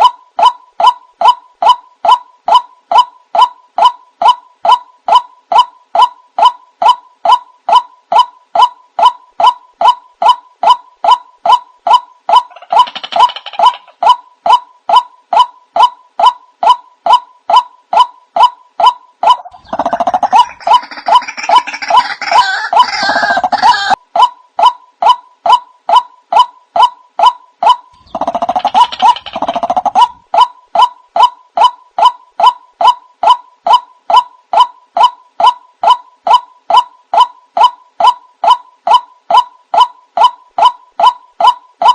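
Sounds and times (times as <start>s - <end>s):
repeated bird call: 0.0s - 41.9s.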